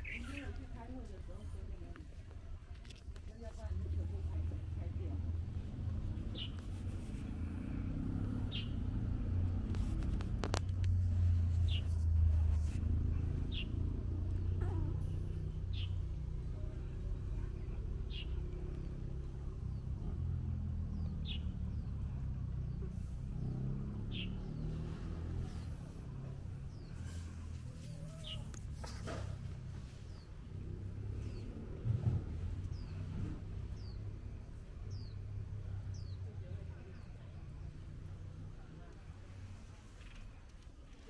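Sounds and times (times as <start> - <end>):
steady low rumble: 0.0 - 40.9.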